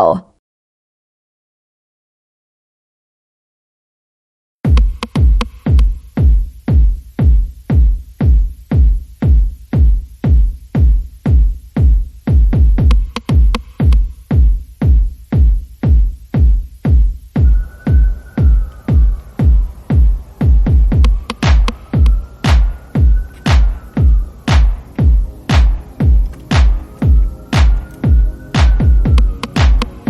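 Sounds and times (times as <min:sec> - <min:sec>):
electronic music with kick drum: 0:04.7 - 0:30.0.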